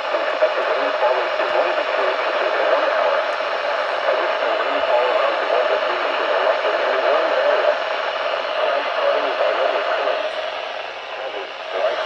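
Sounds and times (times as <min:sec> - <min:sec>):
faint voice: 0:00.0 - 0:12.0
radio static hiss: 0:00.0 - 0:12.0.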